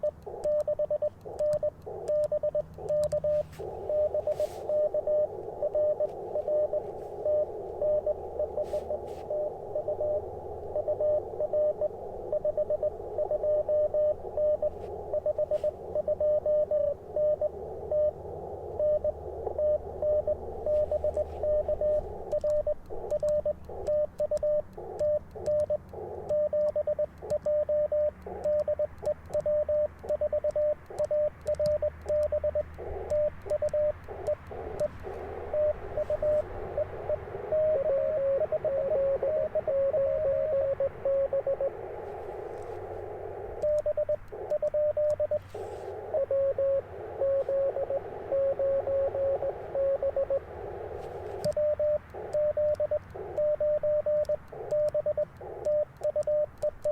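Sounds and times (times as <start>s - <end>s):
morse code tone: 0.0s - 56.9s
receiver hiss: 0.0s - 56.9s.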